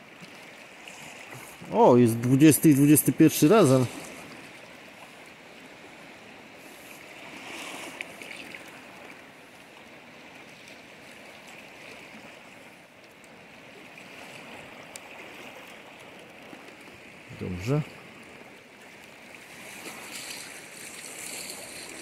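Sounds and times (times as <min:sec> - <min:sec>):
sea surf on shore: 0:00.0 - 0:22.0.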